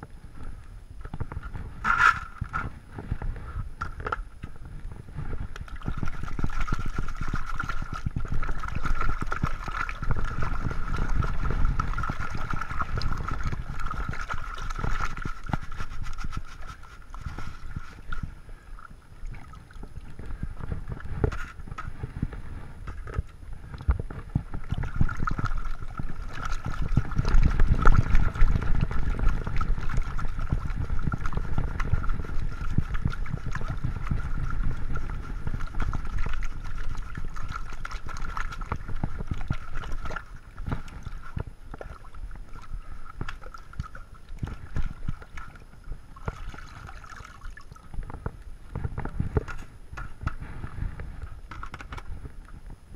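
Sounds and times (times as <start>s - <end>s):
water sloshing and splashing: 0.4s - 52.7s.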